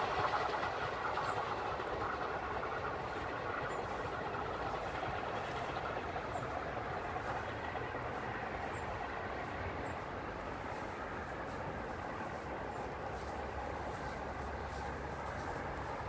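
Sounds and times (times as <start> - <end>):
diesel railcar rumbling: 0.0 - 16.0.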